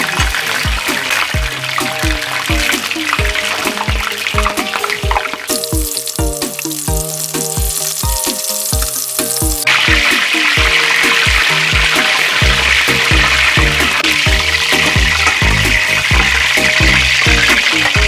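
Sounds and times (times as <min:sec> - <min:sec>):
background music with steady beat: 0:00.0 - 0:18.0
hot oil sizzling: 0:00.0 - 0:18.0.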